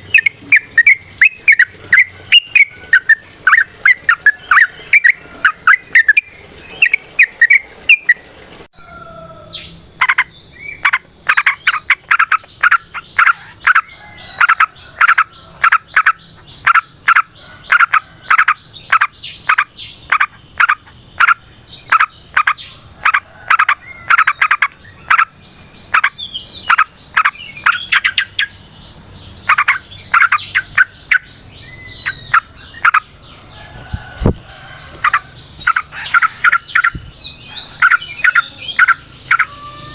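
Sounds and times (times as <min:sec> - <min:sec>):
bird chattering song: 0:00.0 - 0:08.2, 0:09.4 - 0:39.9.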